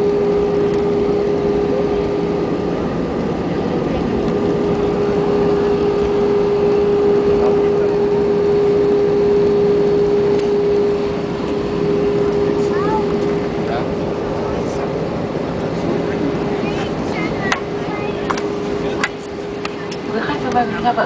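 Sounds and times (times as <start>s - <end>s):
jet airliner cabin noise: 0.0s - 21.0s.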